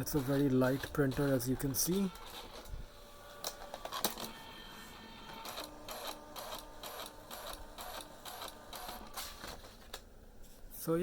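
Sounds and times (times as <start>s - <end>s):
typewriter print mechanism strokes: 0.0s - 2.7s, 3.4s - 9.6s.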